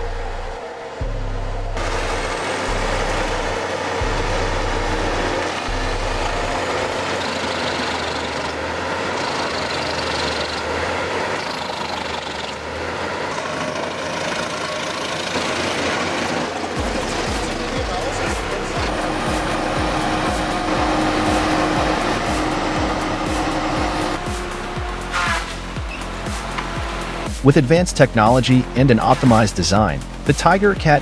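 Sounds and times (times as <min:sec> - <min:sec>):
wood chipper running: 0:00.0 - 0:31.0.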